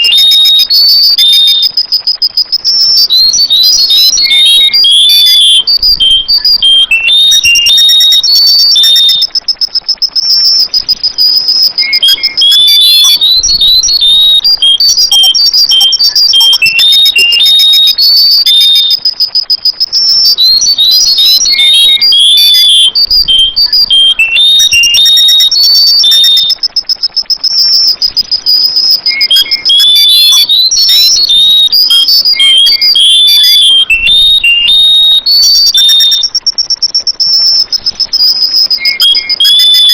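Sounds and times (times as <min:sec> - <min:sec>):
bulbul song with trill: 0:00.0 - 0:39.9.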